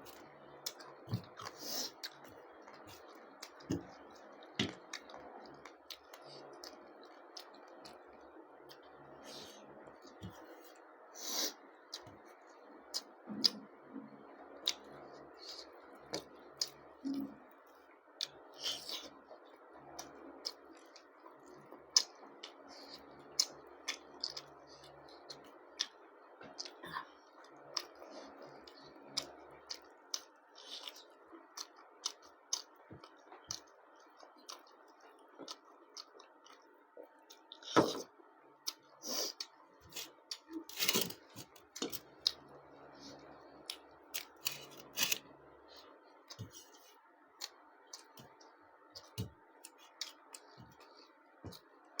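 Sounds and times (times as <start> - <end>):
person chewing food: 0.0 - 13.7, 18.1 - 52.0.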